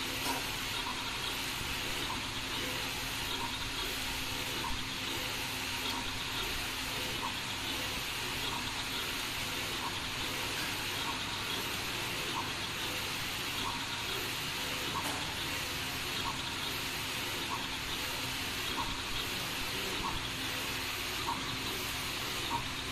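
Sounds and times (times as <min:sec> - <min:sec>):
printer carriage hissing: 0:00.0 - 0:22.9
faint printer clicks: 0:00.2 - 0:22.9.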